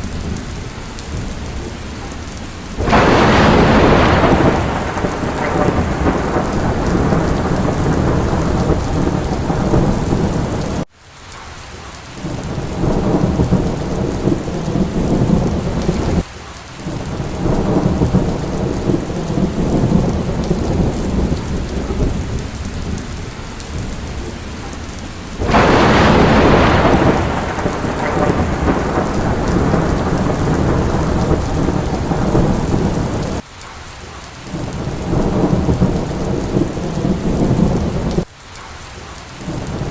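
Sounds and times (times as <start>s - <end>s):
thunder rumbling: 0.0s - 10.9s, 12.2s - 16.2s, 16.8s - 33.4s, 34.5s - 38.3s
heavy rain: 0.0s - 39.9s.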